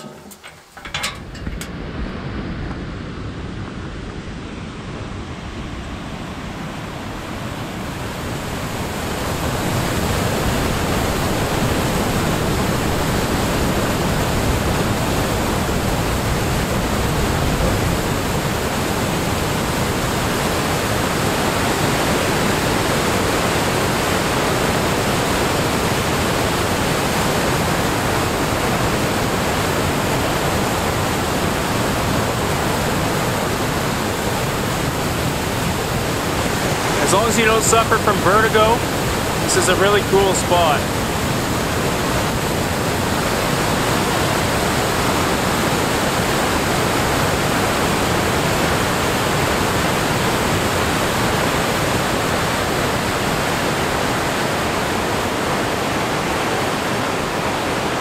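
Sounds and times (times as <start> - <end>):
roar of river rapids: 2.0 - 58.0.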